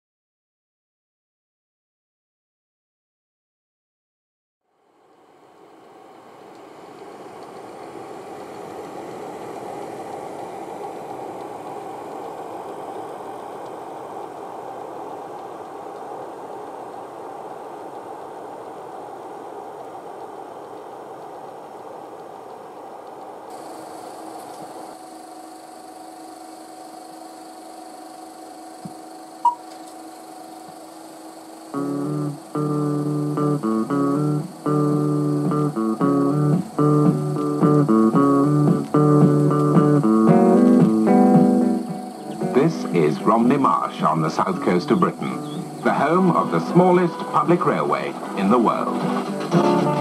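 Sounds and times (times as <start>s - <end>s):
film projector whirring: 5.1s - 18.9s, 19.8s - 50.0s.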